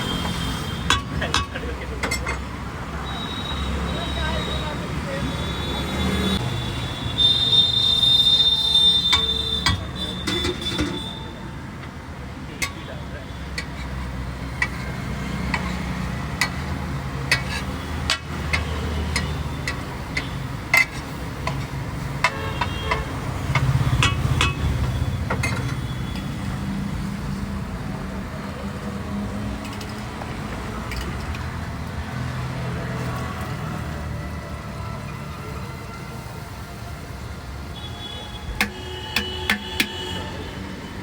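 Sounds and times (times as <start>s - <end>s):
street traffic rumble: 0.0s - 41.0s.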